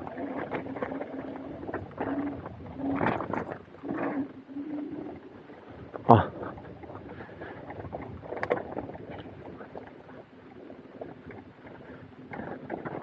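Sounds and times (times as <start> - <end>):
wheels crunching on dirt track: 0.0 - 13.0.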